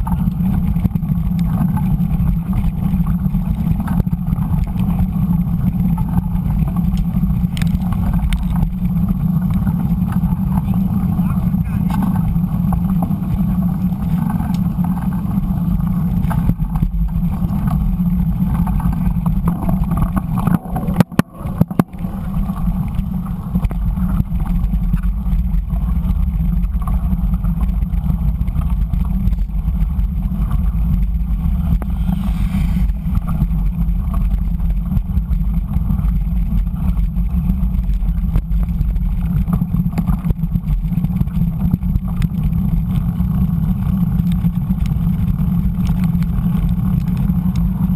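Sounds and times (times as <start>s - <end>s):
bike tyres rumbling on dirt road: 0.0s - 47.9s
wind: 0.0s - 47.9s.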